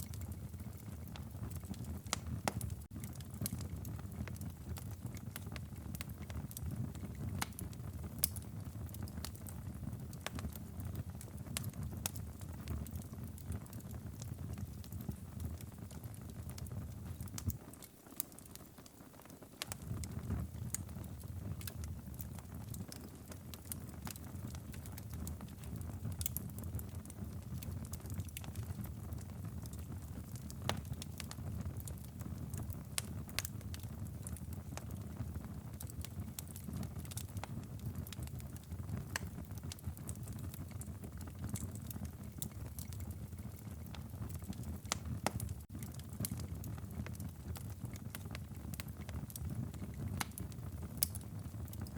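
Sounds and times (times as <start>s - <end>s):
fire pops and snaps: 0.0s - 51.9s
low rumble of flames: 0.0s - 51.9s.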